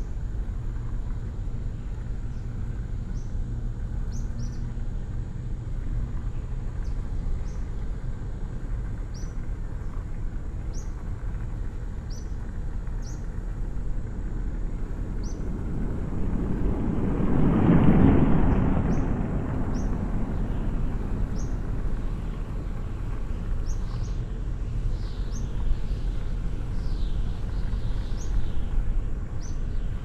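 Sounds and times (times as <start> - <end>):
vehicle rumble: 0.0 - 30.0.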